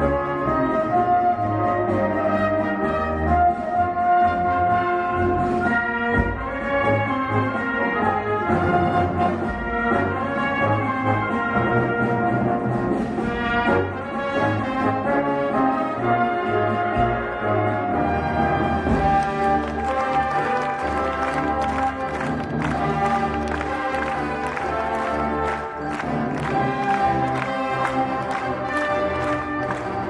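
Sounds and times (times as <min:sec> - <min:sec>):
live brass band music: 0:00.0 - 0:30.0.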